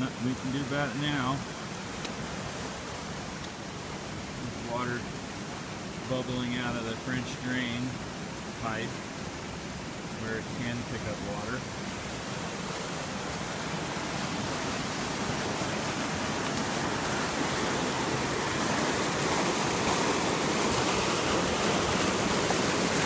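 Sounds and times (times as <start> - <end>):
rushing floodwater: 0.0 - 23.0.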